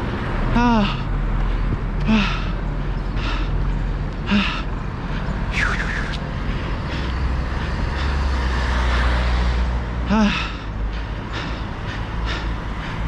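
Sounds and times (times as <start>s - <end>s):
passing traffic rumble: 0.0s - 13.0s
runner breathing heavily: 0.0s - 13.0s.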